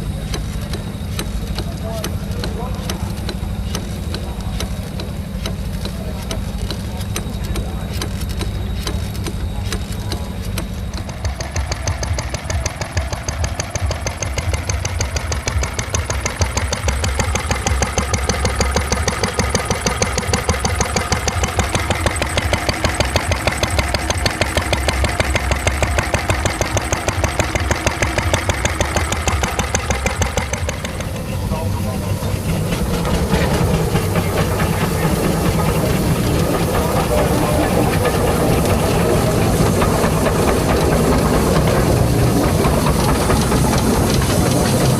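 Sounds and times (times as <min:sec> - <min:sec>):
stationary engine beating: 0:00.0 - 0:44.9
steady low hum: 0:00.0 - 0:44.9.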